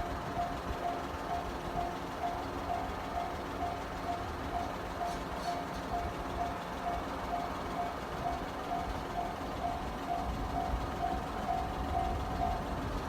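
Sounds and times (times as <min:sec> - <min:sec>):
level crossing warning bell: 0:00.0 - 0:13.0
low vehicle rumble: 0:00.0 - 0:13.0.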